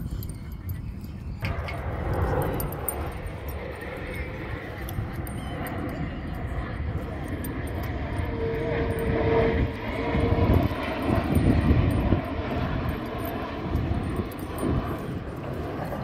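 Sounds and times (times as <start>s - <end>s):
airplane passing overhead: 0.0s - 16.0s.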